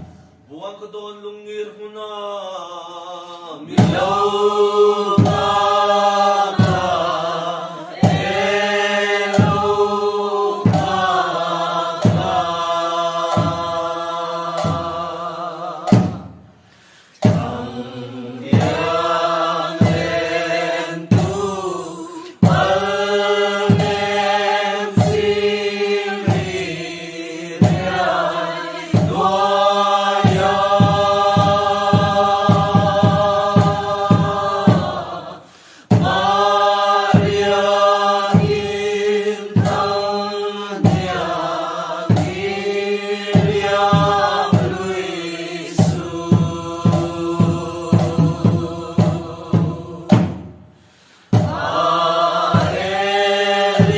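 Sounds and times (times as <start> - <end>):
voices singing a chant-like tune: 0.0 - 53.9
steady beat: 3.7 - 16.6, 17.2 - 50.7, 51.3 - 53.9.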